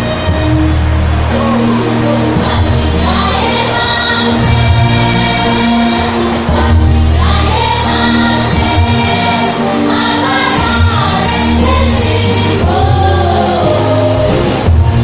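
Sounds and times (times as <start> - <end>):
choir singing gospel song: 0.0 - 15.0
electronic keyboard chords: 0.0 - 15.0.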